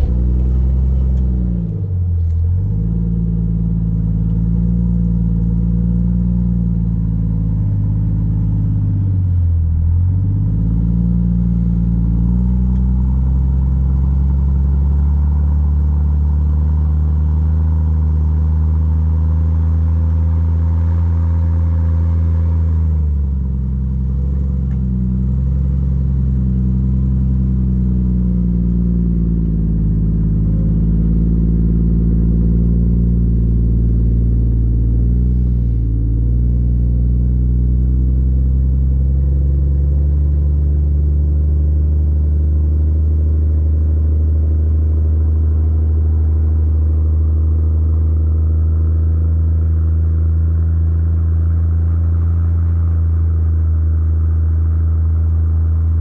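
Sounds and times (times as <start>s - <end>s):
engine running at low revs: 0.0s - 56.0s.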